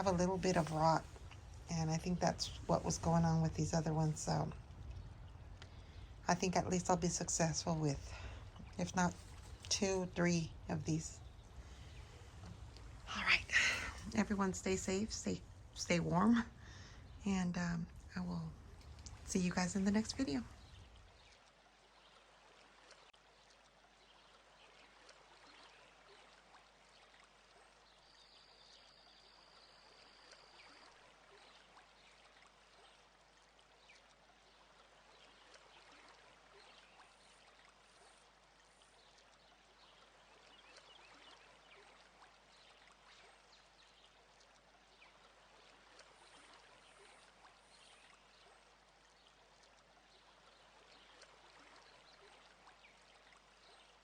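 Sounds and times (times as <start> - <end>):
water dripping: 0.0 - 29.0, 30.0 - 54.0
water trickling: 0.0 - 54.0.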